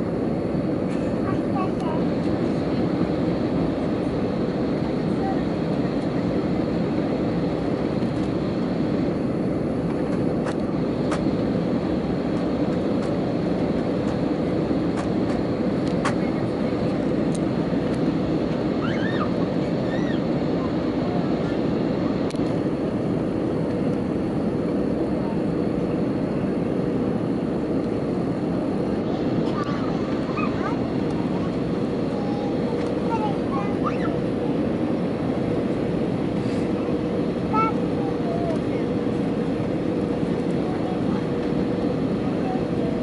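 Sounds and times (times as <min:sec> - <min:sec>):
airliner cabin engine and airflow rush: 0:00.0 - 0:43.0.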